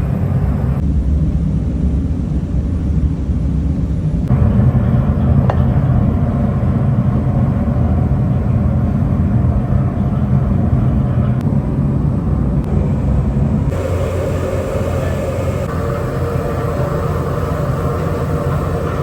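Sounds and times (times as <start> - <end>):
factory machinery rumbling: 0.0 - 19.0
faint whine: 0.0 - 19.0.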